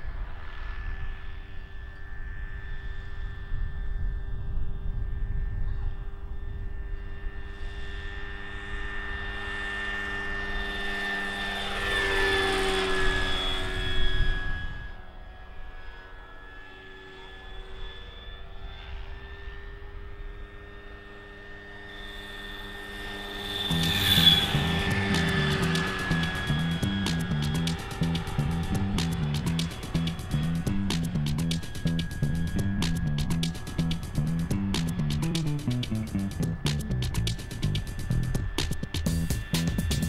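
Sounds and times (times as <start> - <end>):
model helicopter rotor whine: 0.0 - 40.0.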